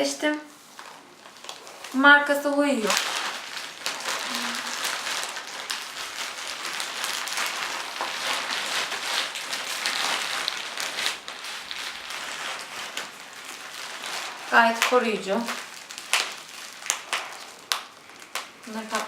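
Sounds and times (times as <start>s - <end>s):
bubble wrap rustling and crackling: 0.0s - 19.0s.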